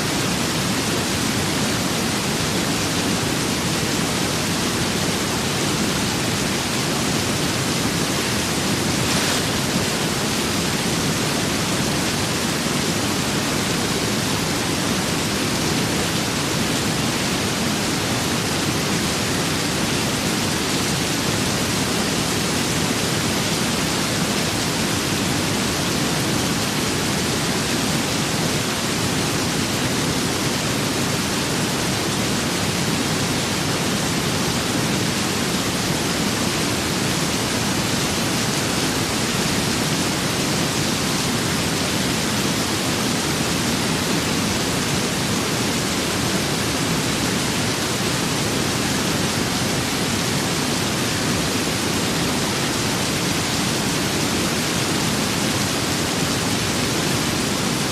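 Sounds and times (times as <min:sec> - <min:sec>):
steady rain with wind: 0:00.0 - 0:57.9.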